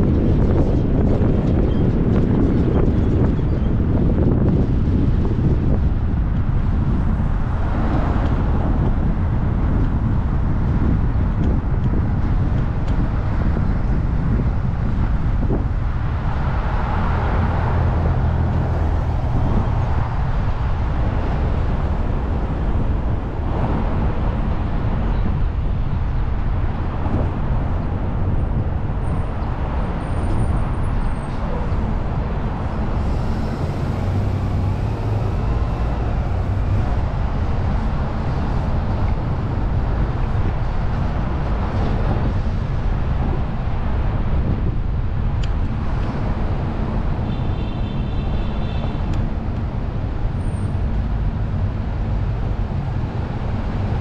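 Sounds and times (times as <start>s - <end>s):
car engine and tyres rumbling: 0.0s - 54.0s
passing traffic: 0.0s - 54.0s.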